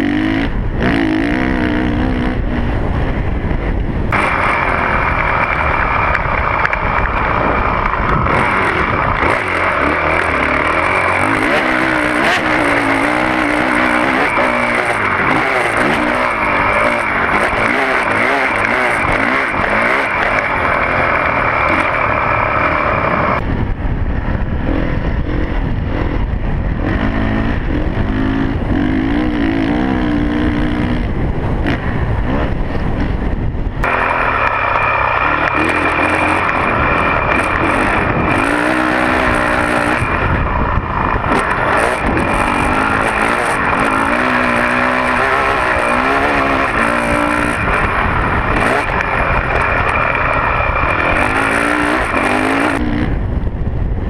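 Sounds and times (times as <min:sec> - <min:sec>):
dirt bike engine revving: 0:00.0 - 0:54.0
wind noise on microphone: 0:00.0 - 0:54.0.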